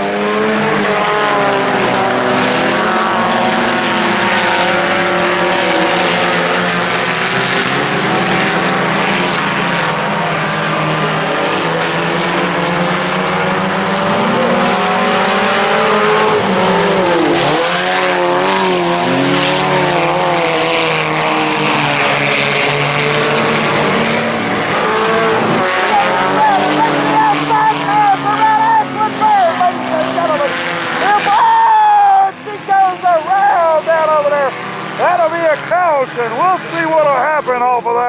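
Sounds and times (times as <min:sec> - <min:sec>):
race car engines at speed: 0:00.0 - 0:38.0.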